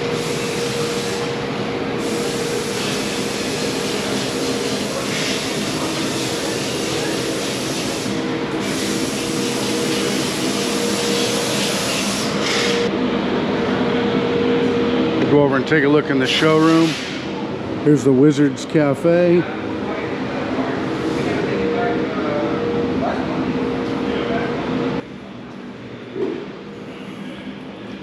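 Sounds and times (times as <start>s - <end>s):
workshop machinery humming: 0.0s - 28.0s.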